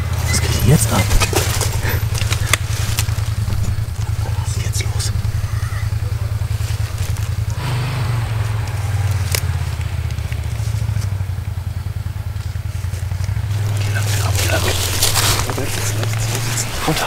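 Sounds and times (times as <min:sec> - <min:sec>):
buggy engine droning: 0:00.0 - 0:17.0.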